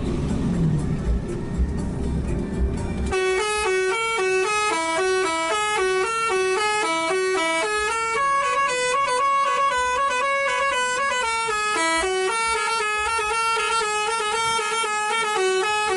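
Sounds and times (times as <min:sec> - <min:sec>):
low engine and road rumble: 0:00.0 - 0:15.9
musical bus air horn tune: 0:03.0 - 0:15.9.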